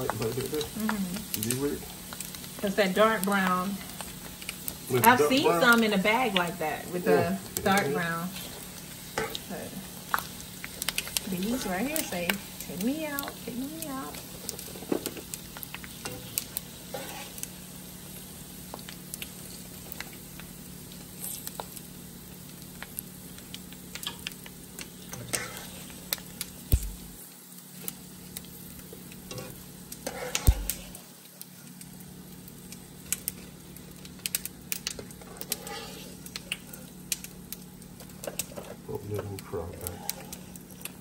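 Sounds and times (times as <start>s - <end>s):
pork skins sizzling in oil: 0.0s - 41.0s.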